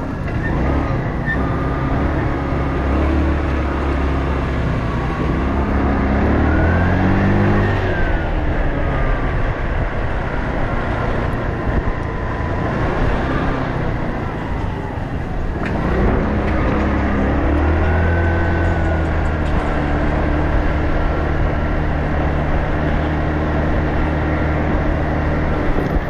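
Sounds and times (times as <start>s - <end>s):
steady rushing road noise: 0.0s - 26.0s
vehicle engine running: 0.0s - 26.0s.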